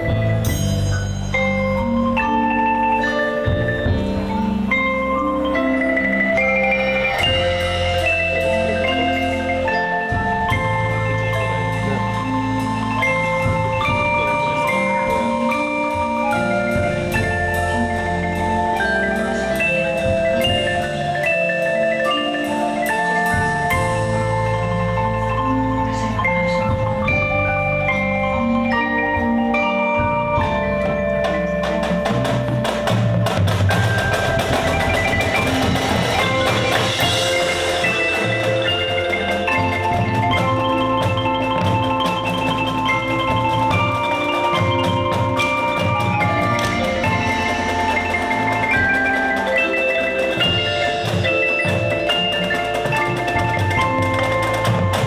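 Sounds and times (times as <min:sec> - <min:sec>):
drums: 0:00.0 - 0:55.0
mallet percussion melody: 0:00.0 - 0:55.0.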